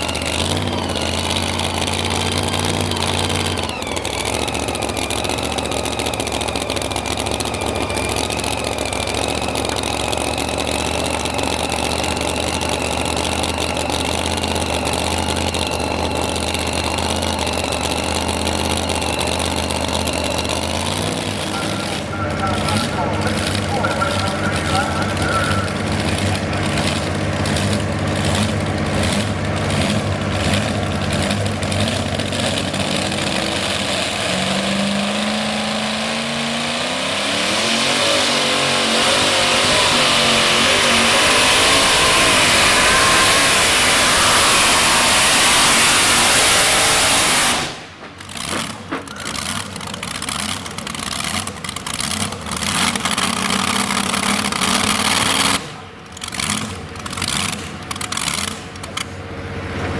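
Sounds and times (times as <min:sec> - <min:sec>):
engine idling unevenly: 0:00.0 - 0:59.9
supercharged truck engine revving: 0:00.0 - 0:59.9.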